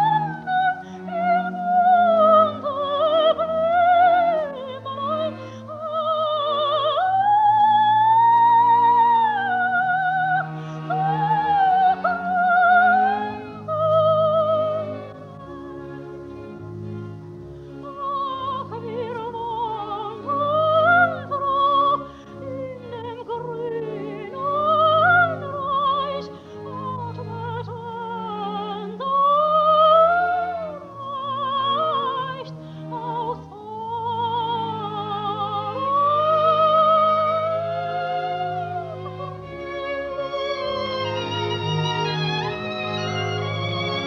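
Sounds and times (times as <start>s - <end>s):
orchestral accompaniment: 0.0s - 44.0s
soprano singing operatic aria: 0.0s - 44.0s.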